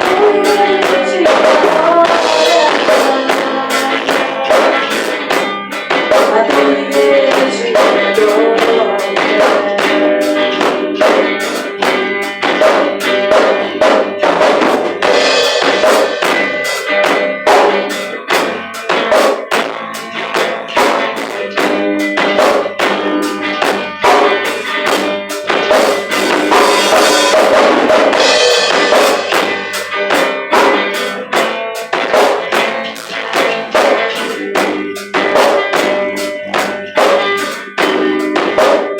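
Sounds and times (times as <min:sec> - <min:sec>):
worship band playing: 0:00.0 - 0:38.9.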